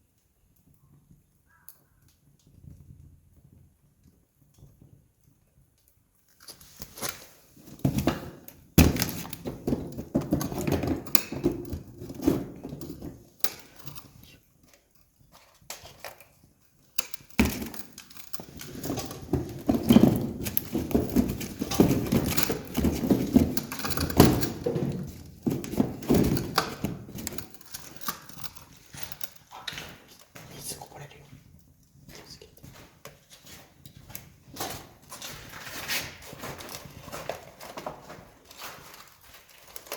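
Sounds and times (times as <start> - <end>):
wood fire crackling: 0.0 - 7.8, 8.4 - 39.9.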